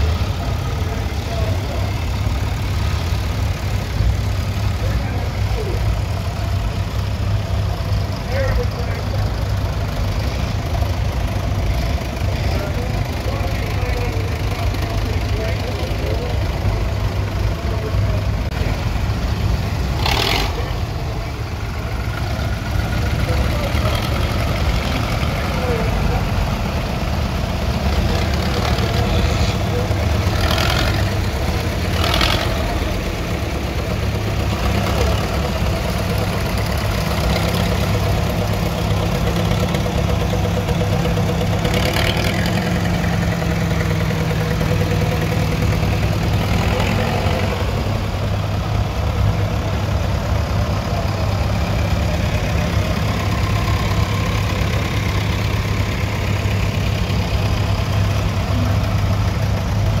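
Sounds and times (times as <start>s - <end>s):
tractor engines rumbling: 0.0s - 60.0s.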